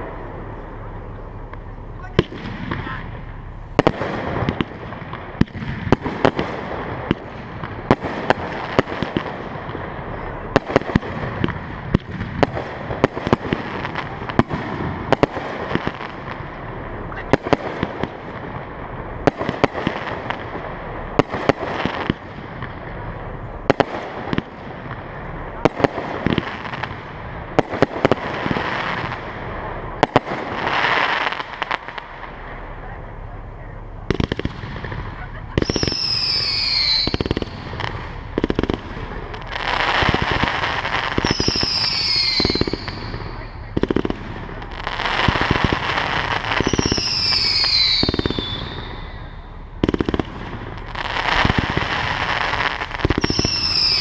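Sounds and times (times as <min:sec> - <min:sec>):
background rumble: 0:00.0 - 0:54.0
fireworks bursting with bangs: 0:00.0 - 0:54.0.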